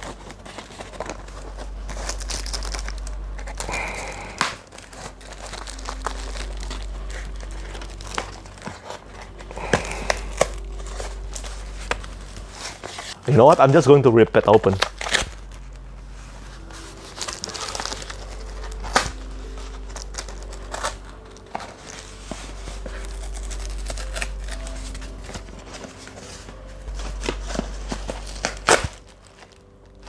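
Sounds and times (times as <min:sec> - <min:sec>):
cardboard and tape tearing: 0:00.0 - 0:13.8, 0:14.4 - 0:15.8, 0:16.6 - 0:30.0
soft background music: 0:00.0 - 0:30.0.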